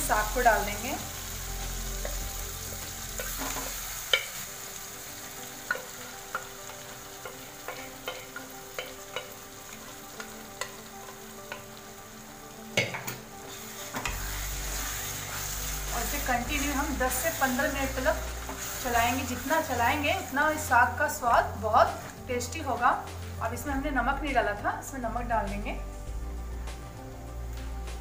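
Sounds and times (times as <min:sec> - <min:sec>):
greens sizzling in a pan: 0:00.0 - 0:23.6.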